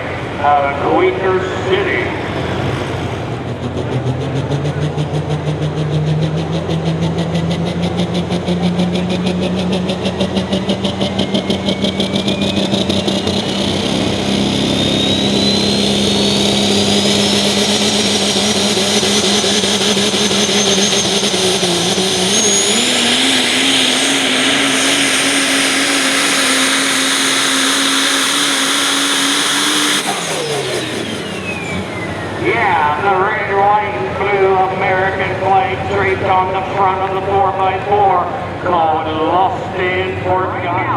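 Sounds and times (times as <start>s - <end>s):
diesel truck engine at full power: 0.0s - 40.9s
high whine rising in pitch: 0.0s - 40.9s.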